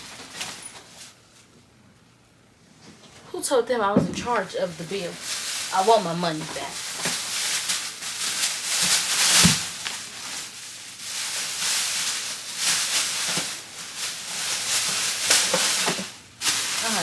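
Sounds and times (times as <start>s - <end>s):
plastic bag rustling and crinkling: 0.0s - 1.5s, 3.0s - 17.0s.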